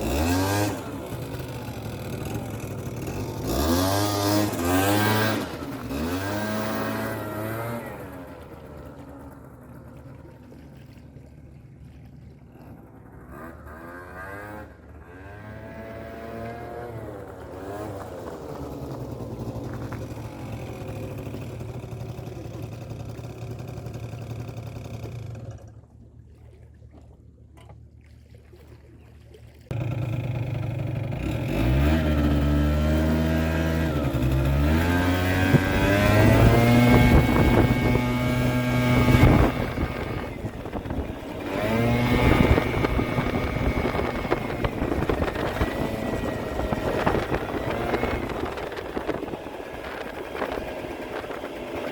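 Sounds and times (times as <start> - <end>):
scooter engine revving: 0.0 - 10.3, 12.7 - 25.8, 29.7 - 51.9.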